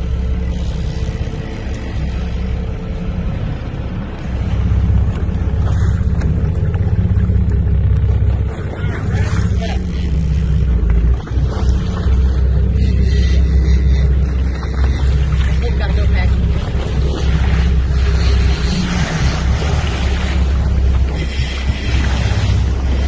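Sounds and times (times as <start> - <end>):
boat engines rumbling: 0.0 - 23.0.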